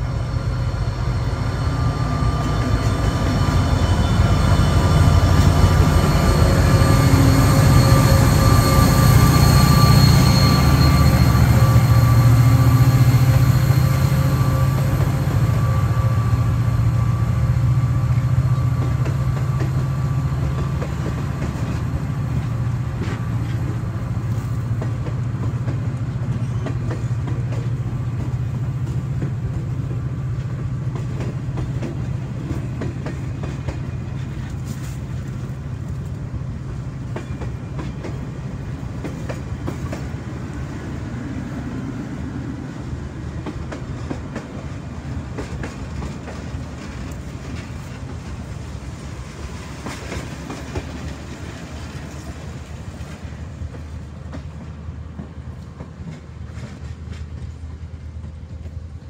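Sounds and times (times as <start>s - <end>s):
train cars rumbling on rails: 0.0s - 59.0s.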